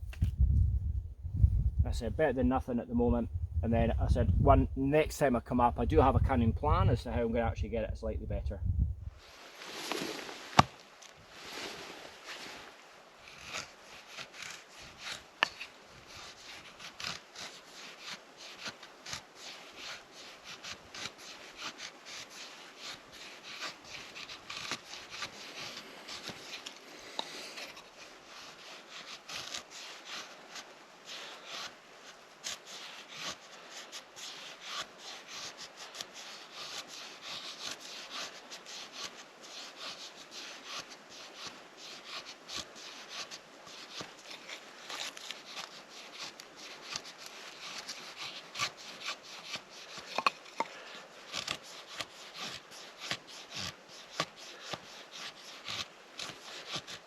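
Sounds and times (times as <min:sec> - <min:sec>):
hands rustling and scraping materials: 0:00.0 - 0:01.8, 0:08.7 - 0:57.0.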